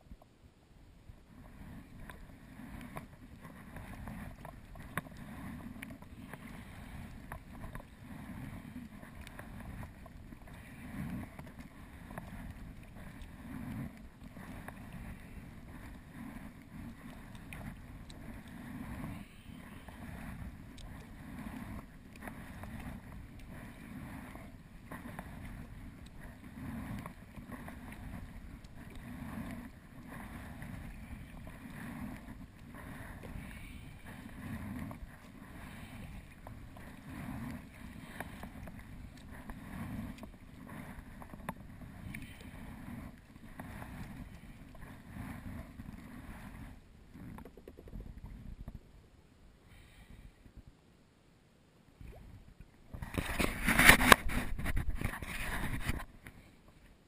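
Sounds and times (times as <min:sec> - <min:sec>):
water swishing against kayak hull: 0:01.1 - 0:49.0, 0:52.0 - 0:57.0.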